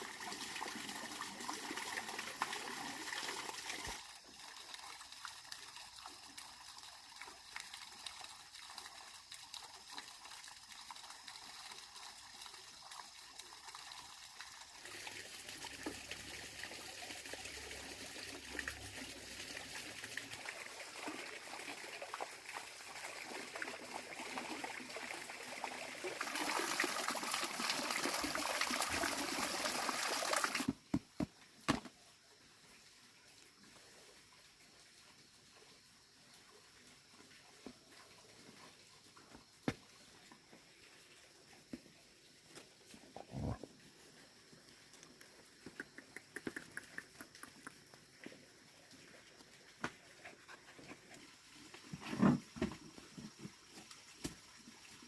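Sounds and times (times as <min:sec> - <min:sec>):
water trickling: 0:00.0 - 0:30.8, 0:31.4 - 0:45.6, 0:46.8 - 0:52.0.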